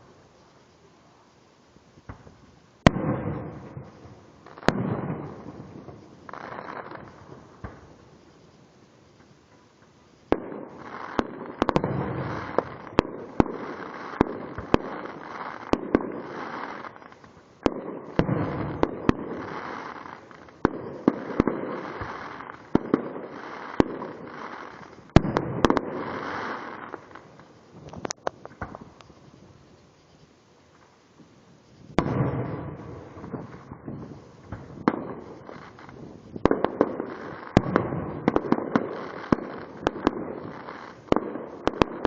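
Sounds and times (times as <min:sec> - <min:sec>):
fireworks crackling: 0:00.0 - 0:42.0
fireworks banging and popping: 0:02.0 - 0:42.0.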